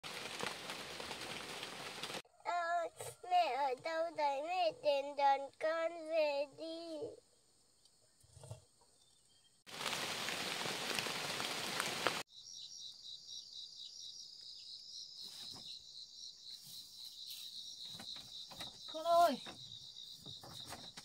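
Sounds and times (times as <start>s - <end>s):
insects chirping: 3.2s - 21.0s.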